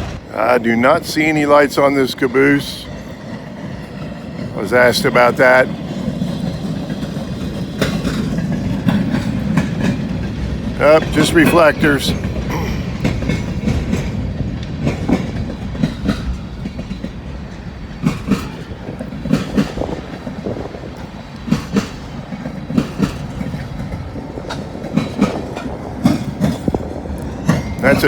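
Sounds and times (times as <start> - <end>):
train low rumble: 0.0 - 28.0
train wheels clacking over rail joints: 0.0 - 28.0.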